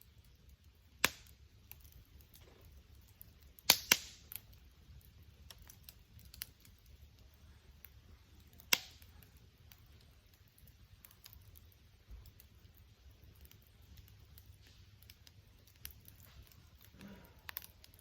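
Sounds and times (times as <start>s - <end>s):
sharp pops from burning wood: 0.0s - 18.0s
wood fire crackling: 0.0s - 18.0s.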